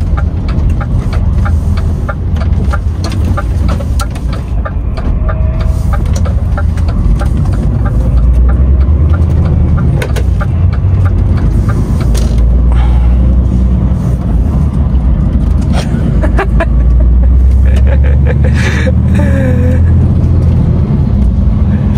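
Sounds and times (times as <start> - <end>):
diesel truck engine running: 0.0 - 21.9
road rumble: 0.0 - 21.9.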